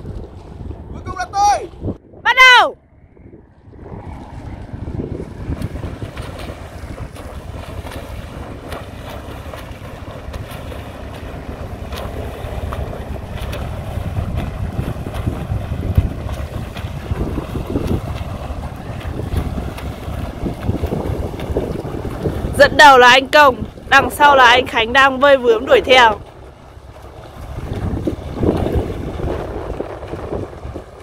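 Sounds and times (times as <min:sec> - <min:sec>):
wind rumbling on microphone: 0:00.0 - 0:31.0
swimmers splashing in water: 0:04.3 - 0:31.0.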